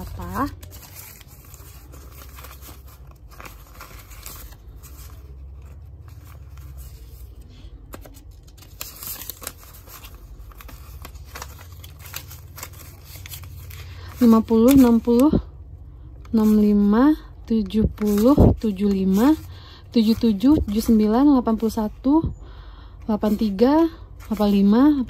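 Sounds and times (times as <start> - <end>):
banknotes rustling and crinkling: 0.0 - 25.0.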